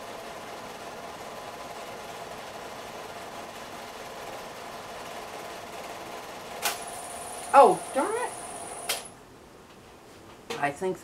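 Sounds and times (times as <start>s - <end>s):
film projector whirring: 0.0s - 9.2s.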